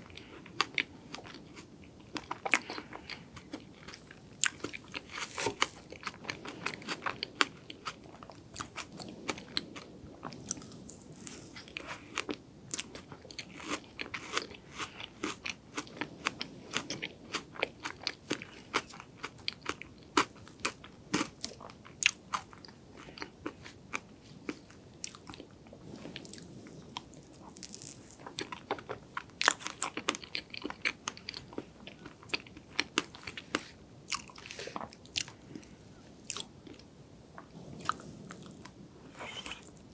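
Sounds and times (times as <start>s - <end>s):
chewing crunchy frozen cake: 0.0s - 39.9s.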